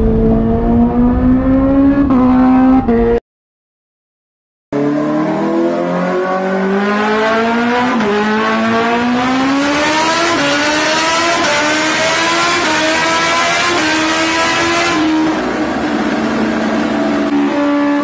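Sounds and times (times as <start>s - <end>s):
motorcycle engine accelerating: 0.0s - 3.2s, 4.7s - 18.0s.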